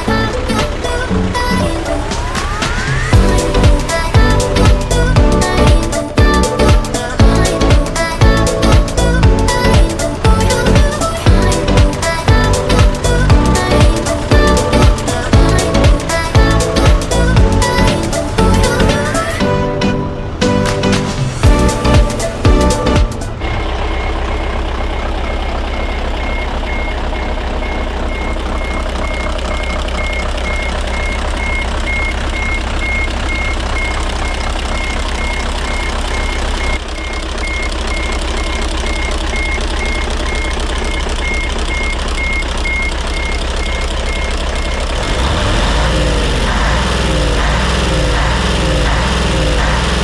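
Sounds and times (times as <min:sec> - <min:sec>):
diesel truck engine running: 0:00.0 - 0:50.0
warning beeps: 0:01.5 - 0:50.0.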